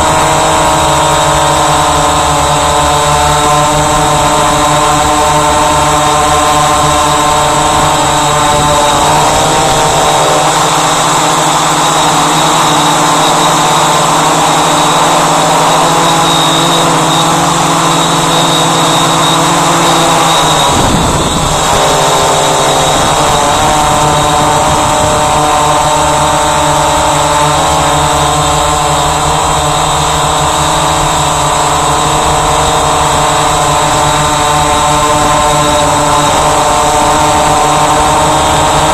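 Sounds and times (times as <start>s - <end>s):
drone motors whining: 0.0s - 38.9s.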